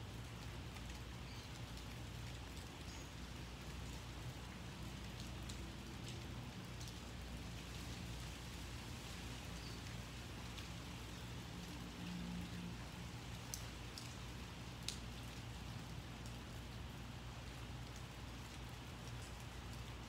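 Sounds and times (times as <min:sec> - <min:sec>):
light rain falling: 0:00.0 - 0:20.0
sharp drip ticks: 0:00.2 - 0:07.1, 0:09.0 - 0:20.0.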